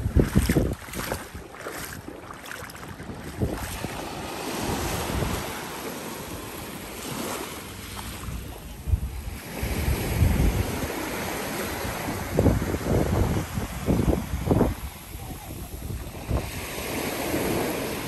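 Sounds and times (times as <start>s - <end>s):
wind buffeting microphone: 0.0s - 7.2s, 8.1s - 18.0s
sea water washing: 0.0s - 18.0s.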